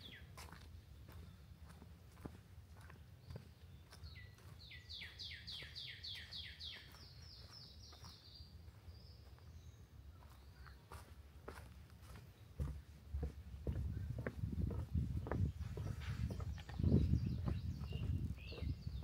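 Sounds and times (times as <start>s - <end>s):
footsteps on forest trail: 0.0s - 19.0s
songbird singing: 0.0s - 19.0s.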